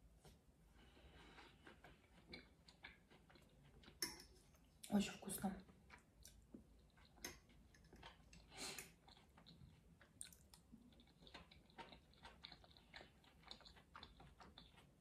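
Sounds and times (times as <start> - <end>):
close-up chewing: 0.8 - 5.0, 5.6 - 15.0.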